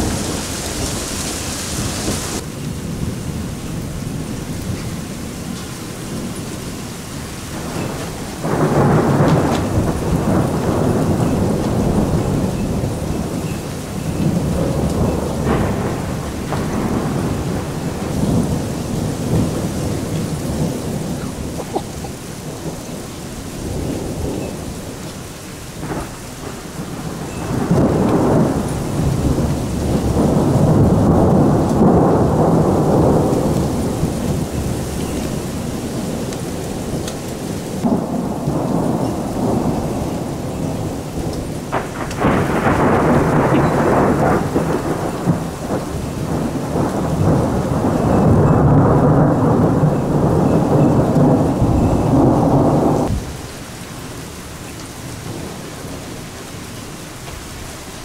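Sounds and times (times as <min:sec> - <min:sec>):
thunder rumbling: 0:00.0 - 0:53.6, 0:55.0 - 0:56.3
steady rain: 0:00.0 - 0:58.0.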